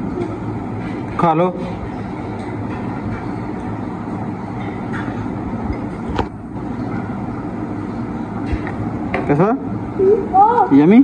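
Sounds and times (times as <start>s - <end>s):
machine drone with low hum: 0.0s - 11.0s.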